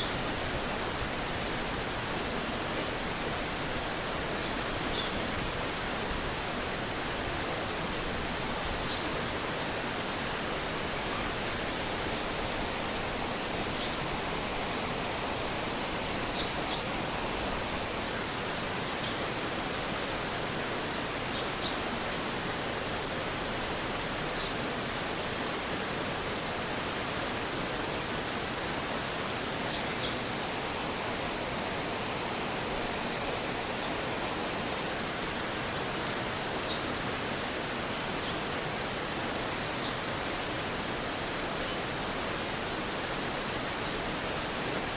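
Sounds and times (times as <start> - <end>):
stream water flowing: 0.0 - 44.9.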